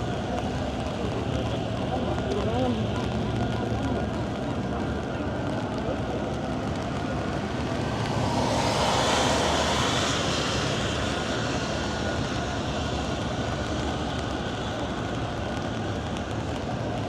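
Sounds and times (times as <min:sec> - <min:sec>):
traffic on wet street: 0:00.0 - 0:17.0.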